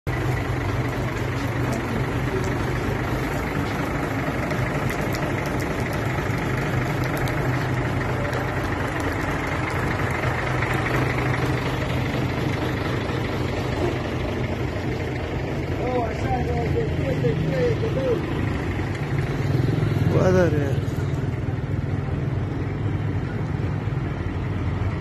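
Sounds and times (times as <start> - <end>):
truck diesel engine idling: 0.1 - 25.0.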